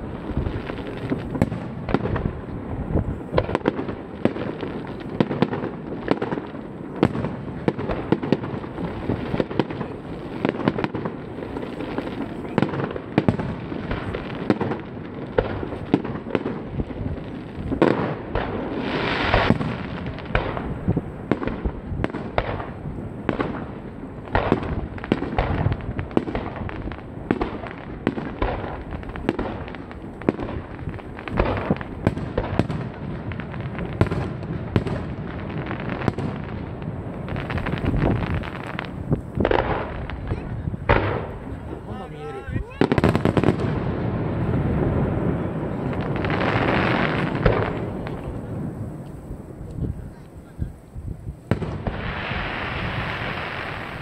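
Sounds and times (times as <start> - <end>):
hissing crackle: 0.0 - 54.0.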